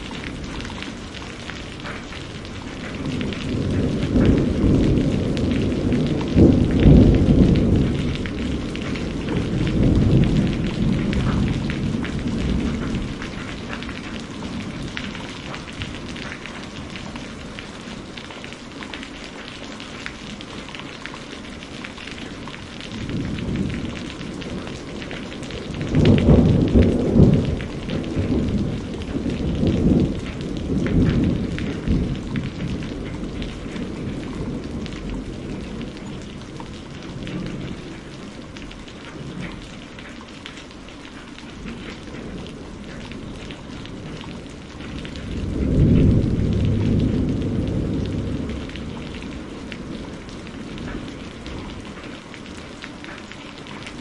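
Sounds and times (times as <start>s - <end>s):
thunder rumbling: 0.0s - 40.9s, 41.5s - 54.0s
heavy rain: 0.0s - 54.0s.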